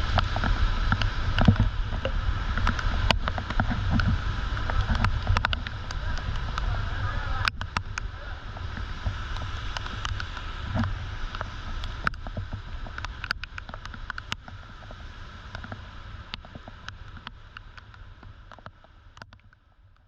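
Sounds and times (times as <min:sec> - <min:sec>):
rain and gusty wind: 0:00.0 - 0:20.0
raindrops ticking: 0:00.0 - 0:20.0
wind rumble on microphone: 0:00.0 - 0:20.0.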